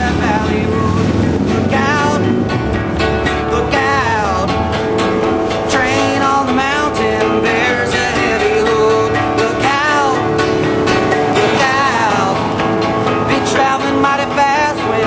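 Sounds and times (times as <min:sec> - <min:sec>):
acoustic guitar strumming: 0:00.0 - 0:15.0
bending melody line: 0:00.0 - 0:15.0.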